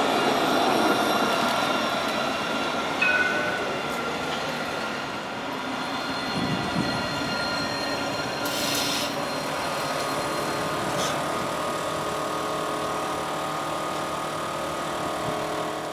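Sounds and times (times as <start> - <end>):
tram rolling rumble: 0.0 - 15.9.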